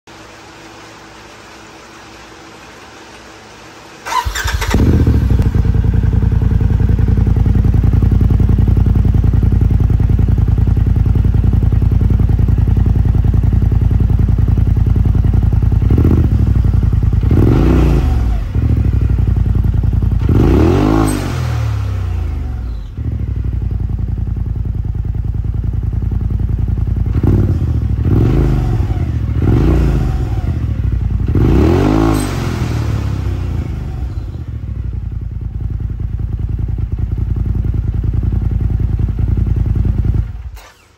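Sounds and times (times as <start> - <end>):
engine idling and revving: 3.7 - 40.9.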